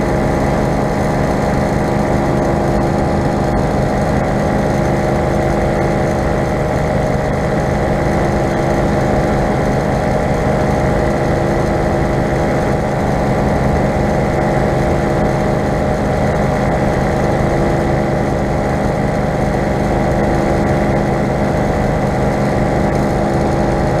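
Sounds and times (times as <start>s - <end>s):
paramotor engine running: 0.0s - 24.0s.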